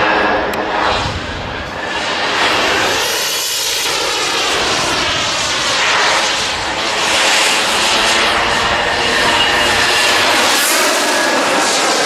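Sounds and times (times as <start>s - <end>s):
model jet turbine whine: 0.0s - 12.0s.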